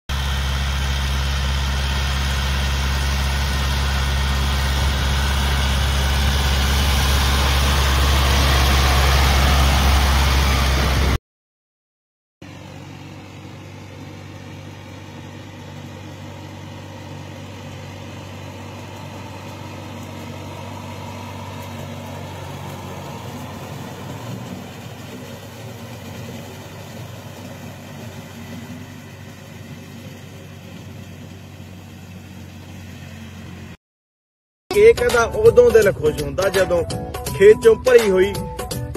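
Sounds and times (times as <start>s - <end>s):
distant tractor engine: 0.1s - 11.2s, 12.4s - 33.8s, 34.7s - 38.4s
tractor diesel engine under load: 0.1s - 11.2s, 12.4s - 33.8s, 34.7s - 38.9s.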